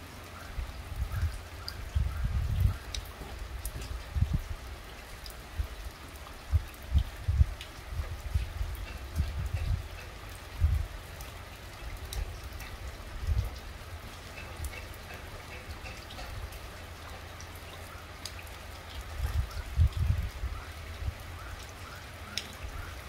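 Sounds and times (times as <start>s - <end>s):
light rain on wet ground: 0.0s - 23.0s
raindrops ticking: 0.0s - 23.0s.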